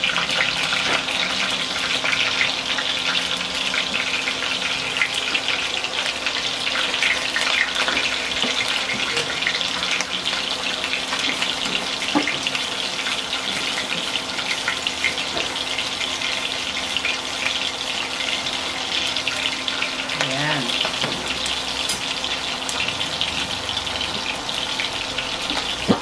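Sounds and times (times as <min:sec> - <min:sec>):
meatballs sizzling in oil: 0:00.0 - 0:26.0
oil popping and crackling: 0:00.0 - 0:26.0.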